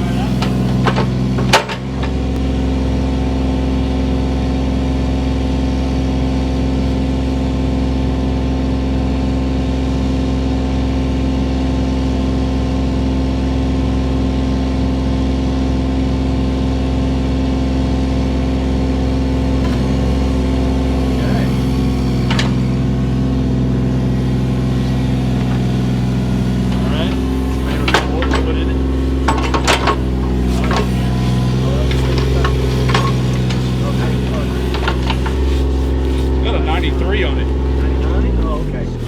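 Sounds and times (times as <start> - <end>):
digging machine engine running: 0.0 - 39.0.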